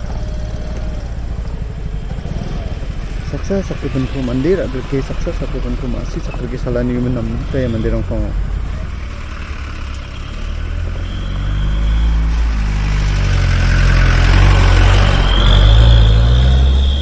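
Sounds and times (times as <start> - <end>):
vehicle engine running: 0.0 - 15.7
road and wind noise: 0.0 - 17.0.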